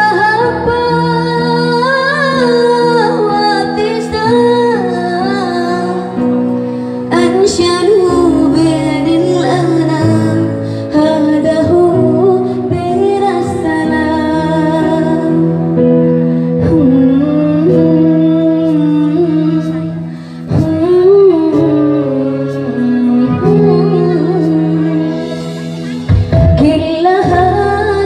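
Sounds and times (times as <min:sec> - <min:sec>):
electronic keyboard: 0:00.0 - 0:28.0
woman singing into a microphone: 0:00.0 - 0:28.0.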